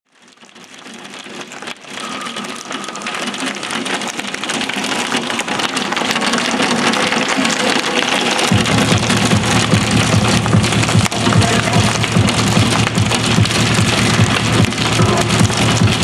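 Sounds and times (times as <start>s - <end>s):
torrential rain pelting the ground: 0.1s - 16.0s.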